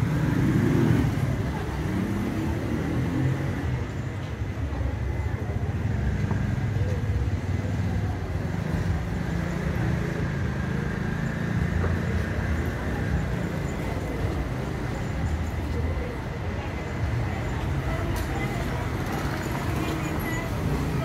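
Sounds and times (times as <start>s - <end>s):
car traffic rumble: 0.0s - 21.0s.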